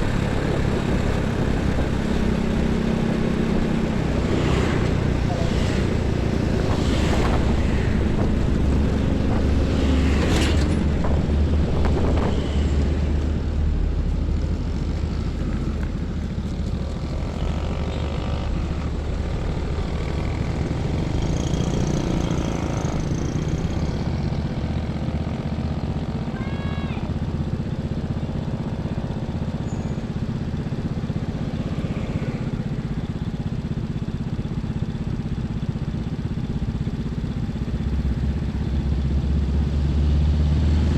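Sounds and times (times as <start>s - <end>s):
highway traffic passing: 0.0s - 34.6s
deep truck engine rumble: 0.0s - 40.9s.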